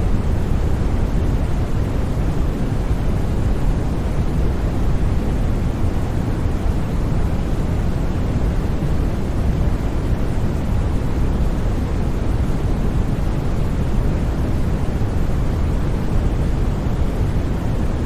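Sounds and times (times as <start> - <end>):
white noise hiss: 0.0 - 18.0.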